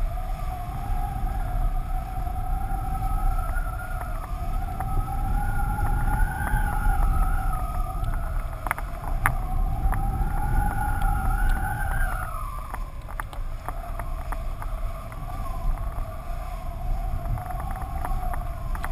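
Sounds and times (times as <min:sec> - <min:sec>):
wavering whistle: 0:00.0 - 0:18.9
wind rumbling over camera: 0:00.0 - 0:18.9.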